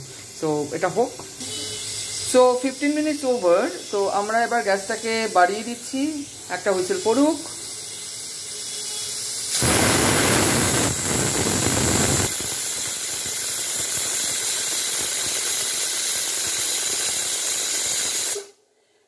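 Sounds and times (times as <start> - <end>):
pressure cooker steam hissing: 0.0 - 18.6.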